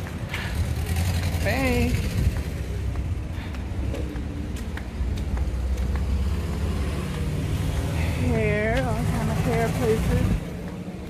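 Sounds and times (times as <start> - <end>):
footsteps on sidewalk: 0.0 - 11.0
street traffic rumble: 0.0 - 11.0.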